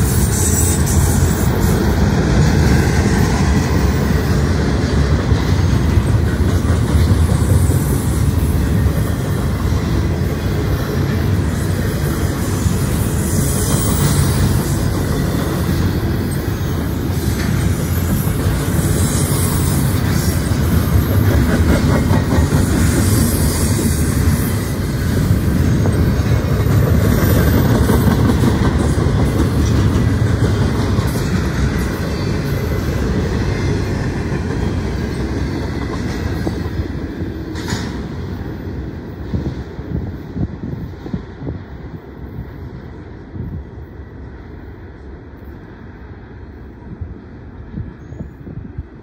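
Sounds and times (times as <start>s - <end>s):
freight train rumbling past: 0.0s - 49.0s.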